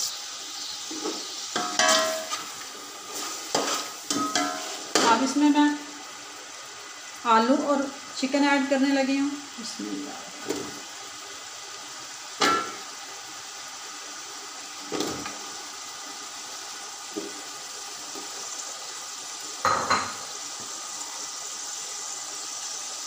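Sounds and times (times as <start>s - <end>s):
oil sizzling: 0.0s - 23.0s.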